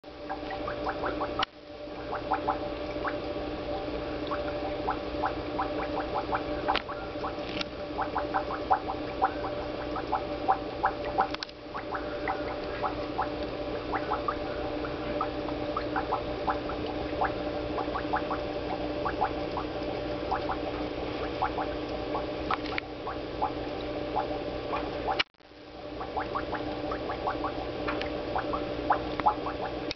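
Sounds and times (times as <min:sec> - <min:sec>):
aquarium water bubbling: 0:00.0 - 0:29.9
steady hum: 0:00.0 - 0:29.9.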